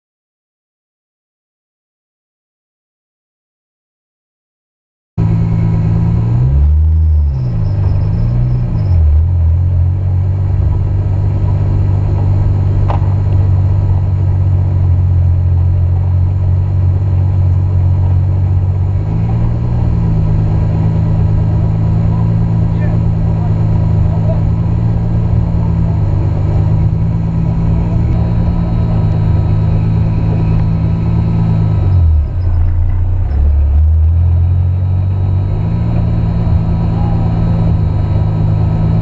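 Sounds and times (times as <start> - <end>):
car engine idling and revving: 5.2 - 39.0.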